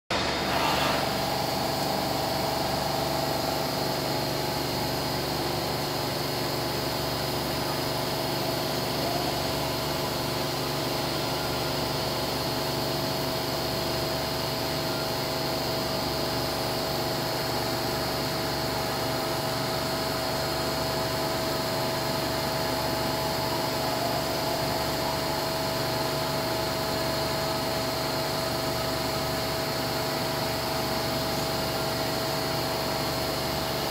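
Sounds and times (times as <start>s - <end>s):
high spindle whine: 0.1s - 33.9s
machine hum: 0.1s - 33.9s.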